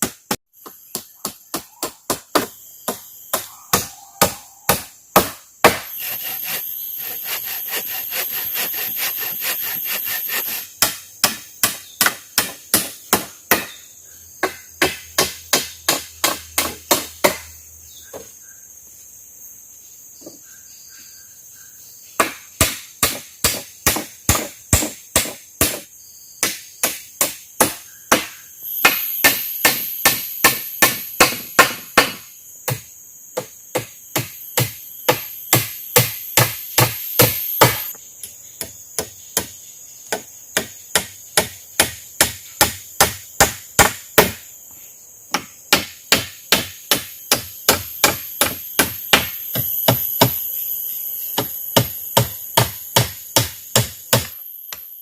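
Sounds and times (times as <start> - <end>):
tool striking wood: 0.0 - 13.8, 14.4 - 17.5, 22.2 - 38.0, 38.6 - 44.4, 45.3 - 50.4, 51.4 - 54.9
high insect buzz: 0.0 - 55.0.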